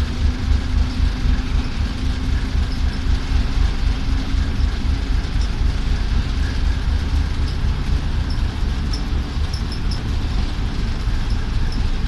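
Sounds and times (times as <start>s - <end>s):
locomotive diesel engine rumbling: 0.0s - 12.0s.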